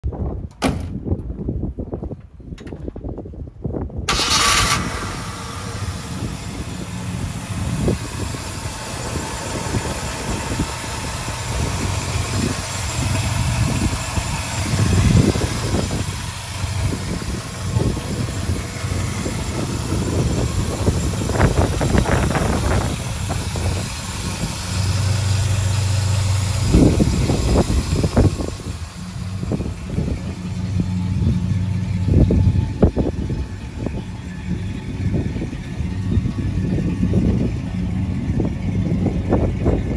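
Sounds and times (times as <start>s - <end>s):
truck engine starting and idling: 0.5s - 39.9s.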